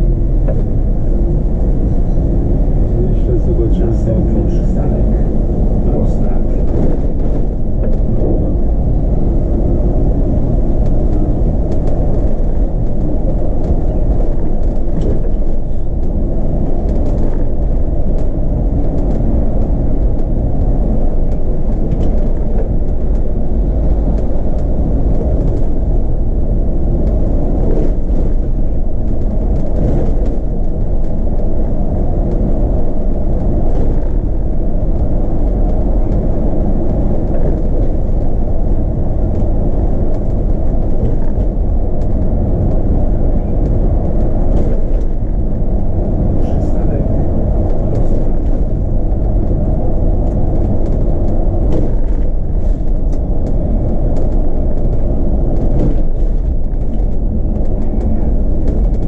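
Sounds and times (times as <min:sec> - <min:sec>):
bus interior rumble: 0:00.0 - 0:59.0.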